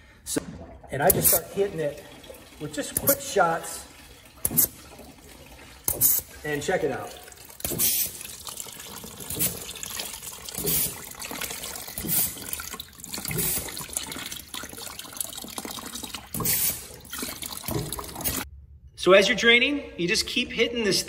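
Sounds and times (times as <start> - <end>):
water gushing into tub: 0.3 - 18.5.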